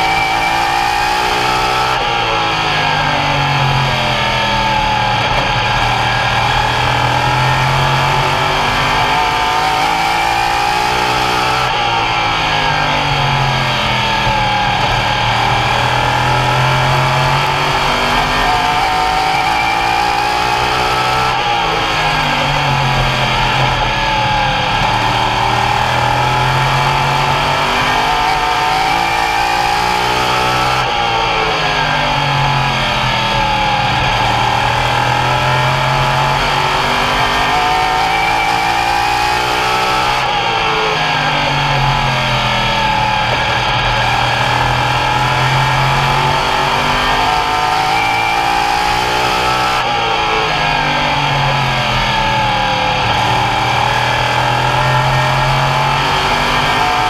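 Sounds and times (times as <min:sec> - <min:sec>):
race car engines accelerating: 0:00.0 - 0:57.0.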